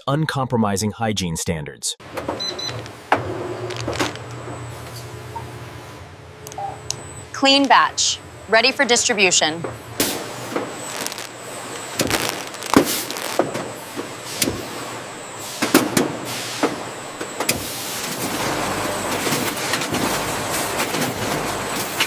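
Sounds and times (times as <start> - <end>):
factory machinery running: 2.0 - 22.0.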